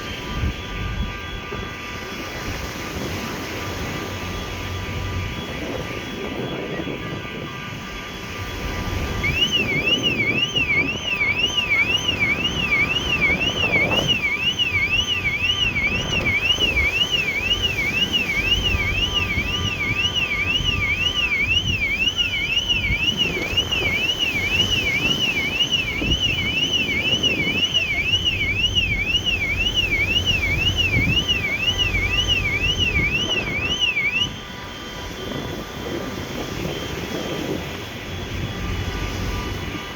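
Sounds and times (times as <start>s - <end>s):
electronic alarm siren wailing: 0.0s - 39.9s
ship engines rumbling: 0.0s - 39.9s.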